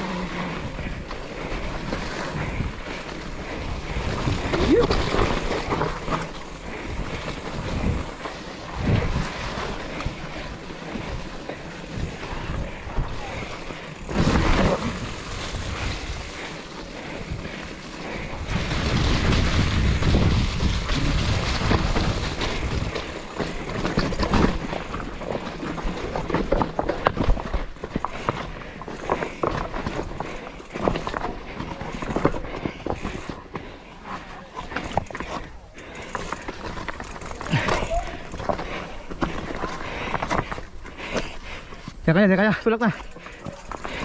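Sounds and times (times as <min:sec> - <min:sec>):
bike rattling and clunking: 0:00.0 - 0:44.0
bike tyres rushing on dirt: 0:00.0 - 0:44.0.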